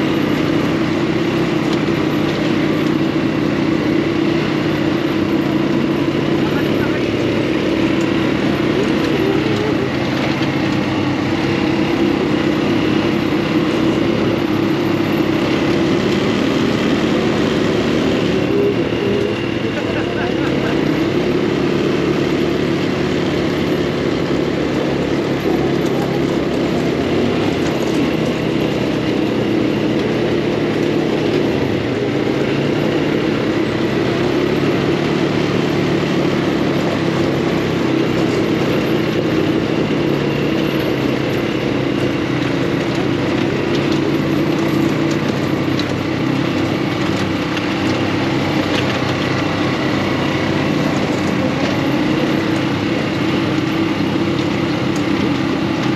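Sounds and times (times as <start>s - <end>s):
buggy engine running: 0.0s - 55.9s
wind and terrain noise: 0.0s - 55.9s.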